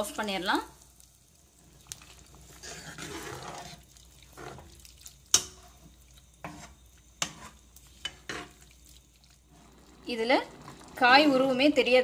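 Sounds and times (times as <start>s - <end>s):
ladle stirring thick gravy: 1.4s - 11.7s.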